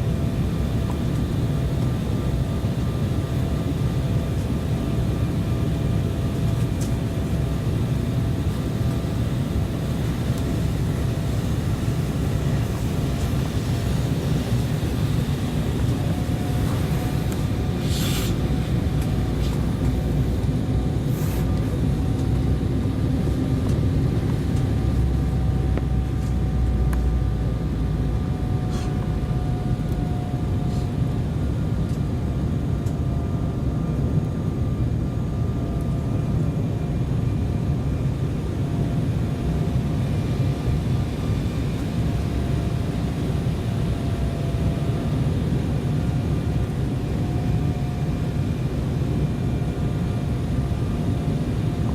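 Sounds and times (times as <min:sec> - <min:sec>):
faint wavering whine: 0:00.0 - 0:31.7, 0:32.7 - 0:51.9
aircraft engines and airflow rumble: 0:00.0 - 0:51.9.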